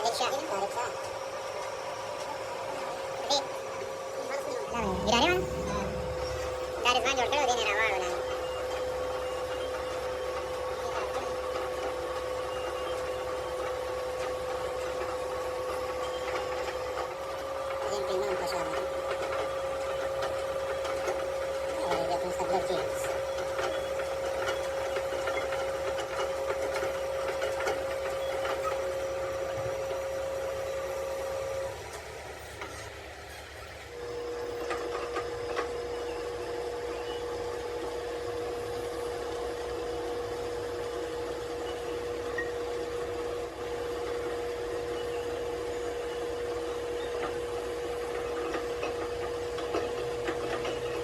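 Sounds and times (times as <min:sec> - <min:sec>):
workshop machine motor whining: 0:00.2 - 0:51.0.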